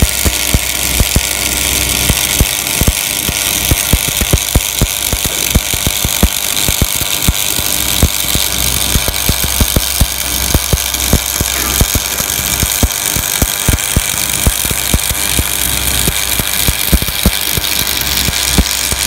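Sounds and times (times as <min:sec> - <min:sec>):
welding arc crackling and popping: 0:00.0 - 0:19.0.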